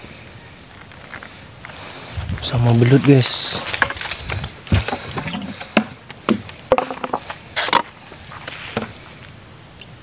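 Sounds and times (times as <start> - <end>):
high insect drone: 0.0 - 10.0
footsteps on dirt path: 0.7 - 9.0.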